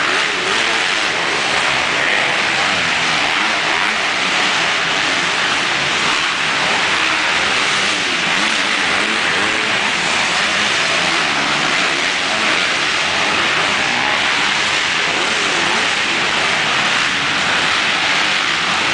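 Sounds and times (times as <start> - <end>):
dirt bike engines revving: 0.0 - 18.9.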